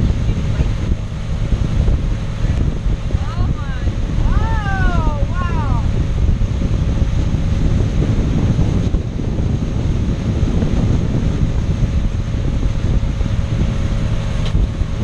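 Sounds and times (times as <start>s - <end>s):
boat engine droning: 0.0s - 15.0s
rush of boat wake: 0.0s - 15.0s
wind buffeting microphone: 0.0s - 15.0s.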